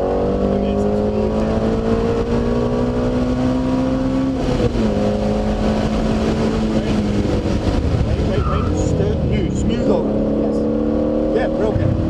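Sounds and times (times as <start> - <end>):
car engine accelerating: 0.0 - 12.0
wind and road noise: 0.0 - 12.0.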